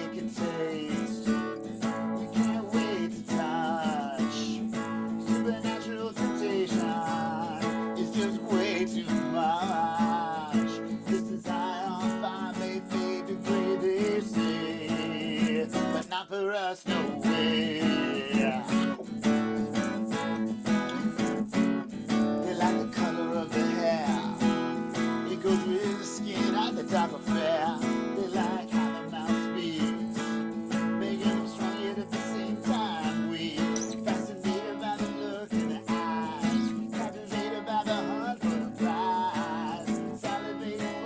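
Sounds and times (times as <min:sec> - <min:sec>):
guitar melody: 0:00.0 - 0:16.2, 0:16.9 - 0:41.0
acoustic guitar strumming: 0:00.0 - 0:41.0.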